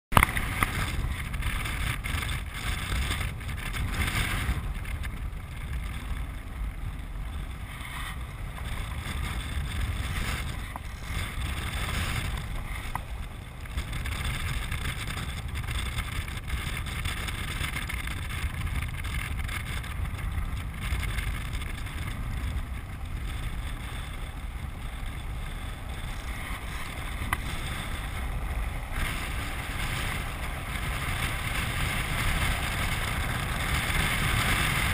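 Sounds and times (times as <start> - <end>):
rolling rumble over hard ground: 0.1 - 34.9
wind buffeting microphone: 0.1 - 34.9.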